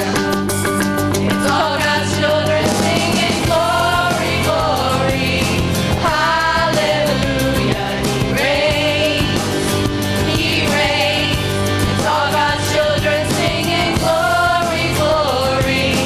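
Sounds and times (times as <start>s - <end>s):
instrumental accompaniment with beat: 0.0s - 16.0s
women singing gospel in harmony: 1.2s - 16.0s.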